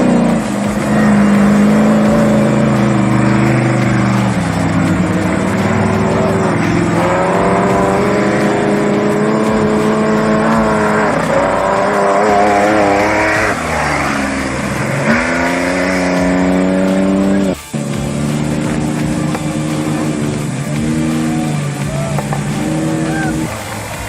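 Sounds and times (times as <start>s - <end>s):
race vehicle engine revving: 0.0s - 24.0s.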